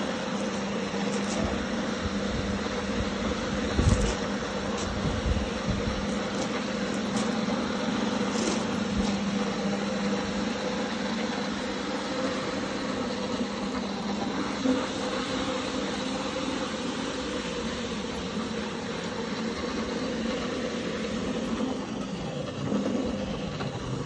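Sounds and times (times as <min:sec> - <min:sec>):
floor scrubber motor hum: 0:00.0 - 0:24.0.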